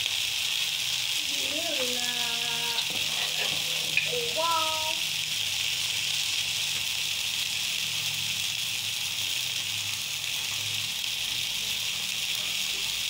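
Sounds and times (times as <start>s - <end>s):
chicken sizzling on griddle: 0.0s - 13.0s.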